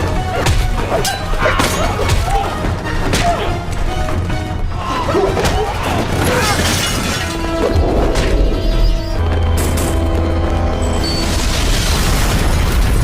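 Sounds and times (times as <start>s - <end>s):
dramatic orchestral score: 0.0s - 13.0s.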